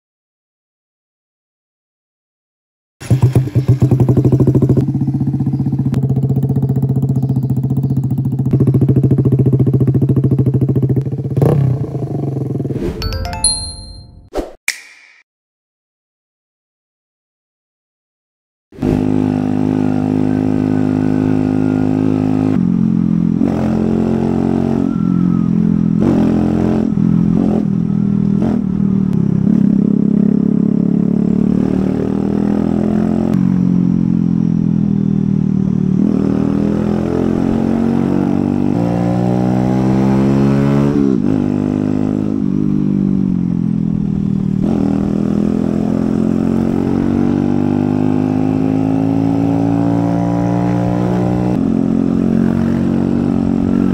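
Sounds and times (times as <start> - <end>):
motorcycle engine revving: 3.0 - 12.8, 18.8 - 53.9.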